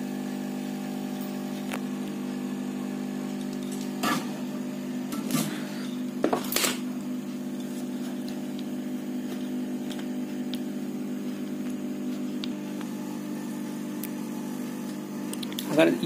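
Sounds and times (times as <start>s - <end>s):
electric motor hum: 0.0s - 16.0s.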